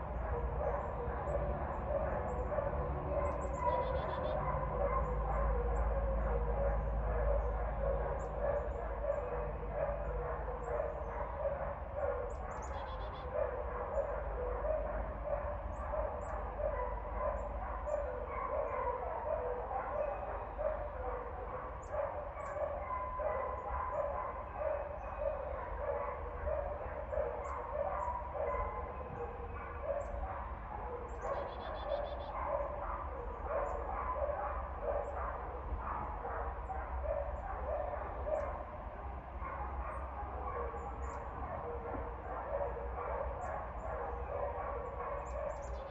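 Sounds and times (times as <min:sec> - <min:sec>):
dog barking: 0:00.0 - 0:45.9.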